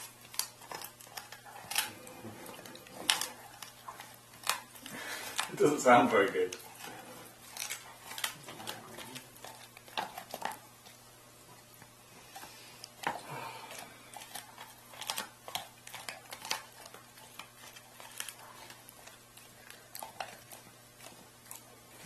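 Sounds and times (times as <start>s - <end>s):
dog chewing frozen meat: 0.0s - 22.0s.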